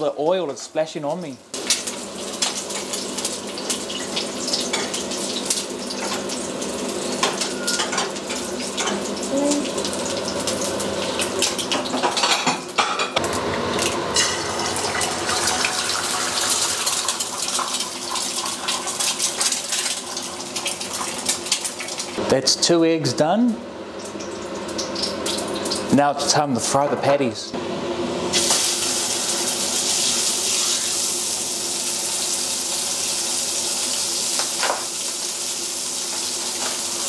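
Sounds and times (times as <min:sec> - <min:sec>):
eggs sizzling in oil: 0:01.5 - 0:12.8, 0:13.4 - 0:22.2, 0:23.9 - 0:25.9, 0:28.3 - 0:37.0.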